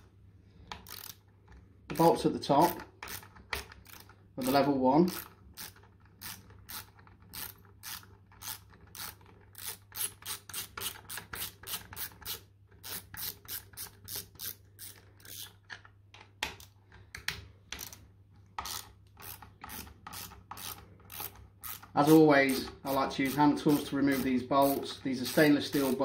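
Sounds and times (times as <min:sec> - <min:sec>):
hand ratchet clicking: 0:00.7 - 0:15.7, 0:18.6 - 0:26.0.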